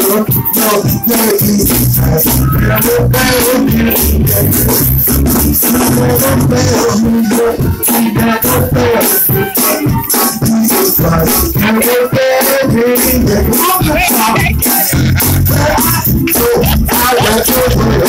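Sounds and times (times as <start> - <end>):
bass line: 0.0 - 18.0
man singing into a microphone: 0.0 - 18.0
shaker rhythm: 0.0 - 18.0.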